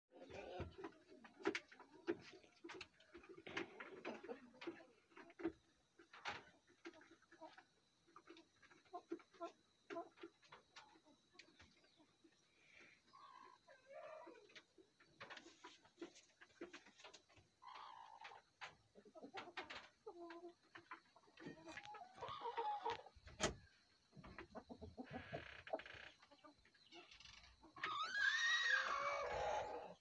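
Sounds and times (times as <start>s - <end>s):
hen clucking faintly: 0.1s - 30.0s.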